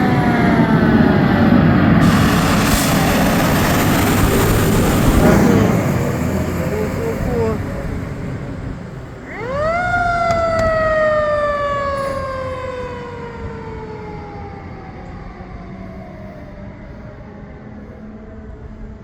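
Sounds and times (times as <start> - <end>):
fire engine siren: 0.0 - 19.0
low vehicle rumble: 0.0 - 19.0.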